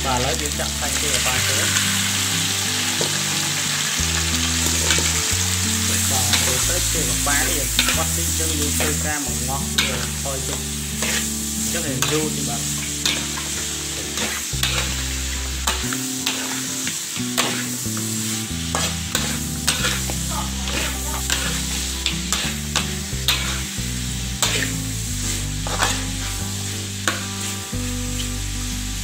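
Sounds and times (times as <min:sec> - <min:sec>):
meat sizzling in a wok: 0:00.0 - 0:29.0
metal spatula scraping a wok: 0:04.6 - 0:28.3.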